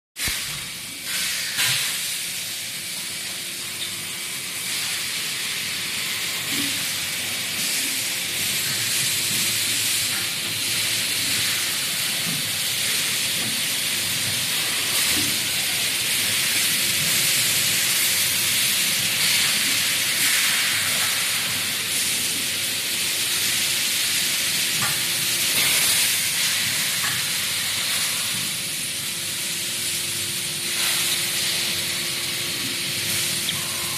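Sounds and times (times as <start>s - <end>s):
machine hiss: 0.2s - 33.9s.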